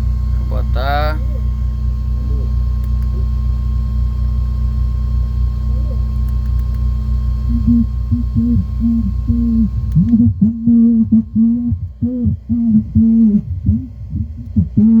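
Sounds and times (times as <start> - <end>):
deep bass drone: 0.0 - 15.0.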